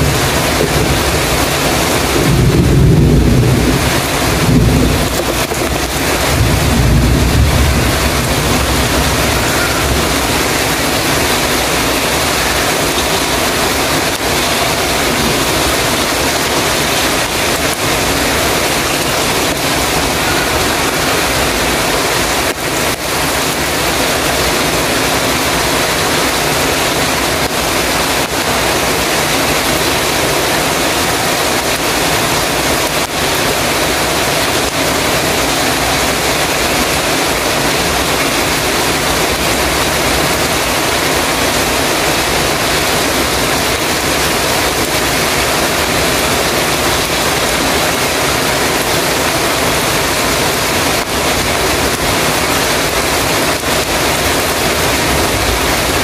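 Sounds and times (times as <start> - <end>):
heavy rain on a metal roof: 0.0 - 56.0.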